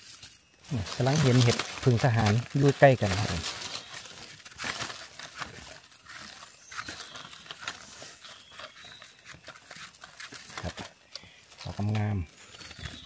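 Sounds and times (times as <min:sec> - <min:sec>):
dry leaf litter crackling: 0:00.0 - 0:13.0.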